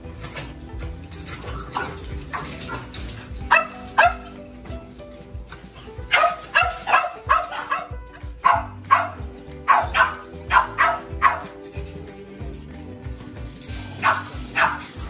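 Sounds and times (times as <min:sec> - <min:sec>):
background music: 0:00.0 - 0:15.0
puppies yipping and barking: 0:00.0 - 0:15.0.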